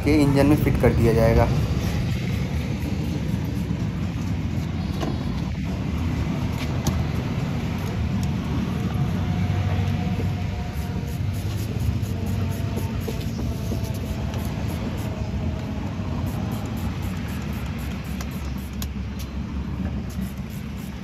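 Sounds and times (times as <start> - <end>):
motor vehicles rumbling: 0.0 - 21.0.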